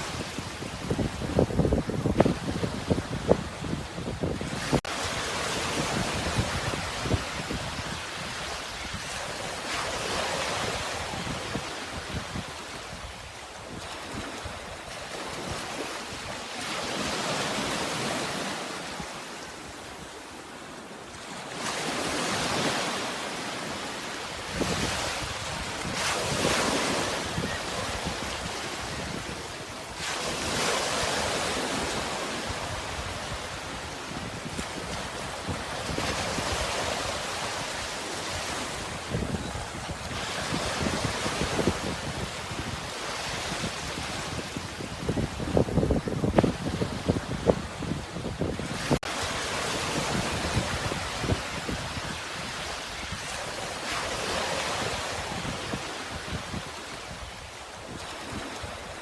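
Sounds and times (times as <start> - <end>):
sea waves breaking: 0.0 - 57.0
wind: 0.0 - 59.0.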